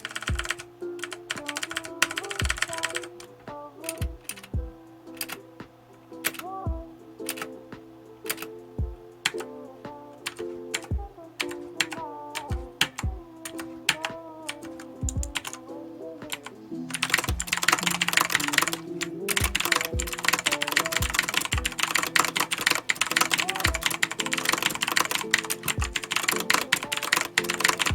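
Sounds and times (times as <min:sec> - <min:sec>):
clicky keyboard typing: 0:00.0 - 0:05.5, 0:06.2 - 0:06.6, 0:07.2 - 0:07.6, 0:08.2 - 0:08.6, 0:09.2 - 0:15.6, 0:16.2 - 0:27.9
background music: 0:00.0 - 0:27.9.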